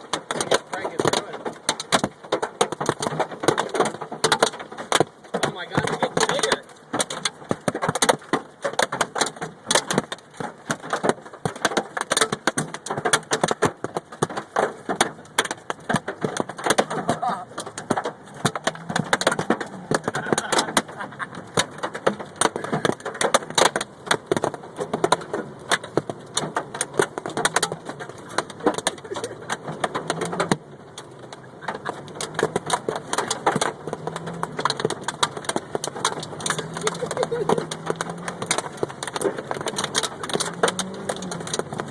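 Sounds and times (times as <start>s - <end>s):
hailstones clattering on a car: 0.0s - 41.9s.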